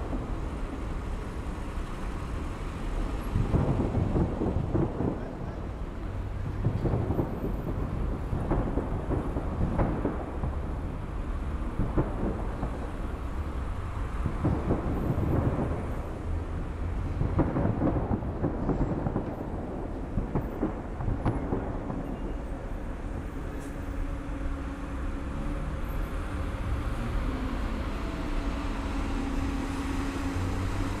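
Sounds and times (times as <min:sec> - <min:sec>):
fireworks booming and crackling: 0:00.0 - 0:31.0.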